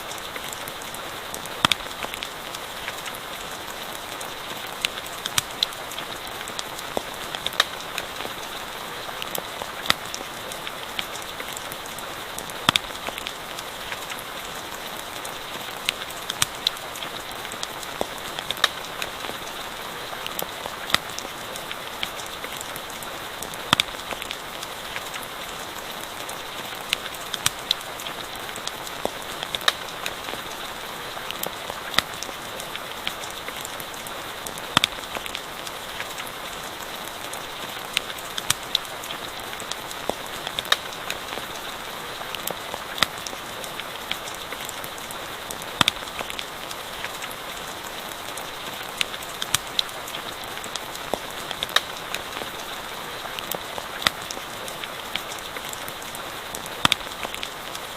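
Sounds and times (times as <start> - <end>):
campfire crackling and popping: 0.0 - 57.9
steady rain hissing: 0.0 - 57.9.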